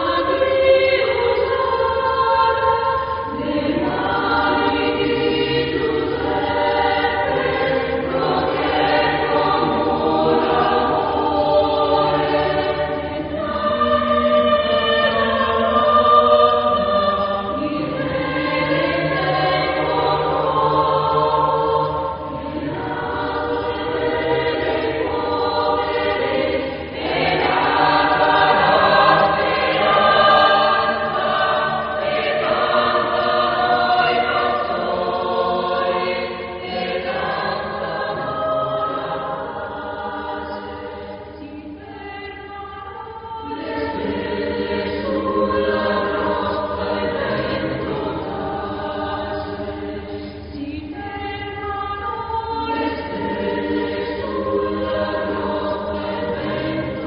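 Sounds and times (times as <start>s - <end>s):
choir singing long chords: 0.0s - 57.0s.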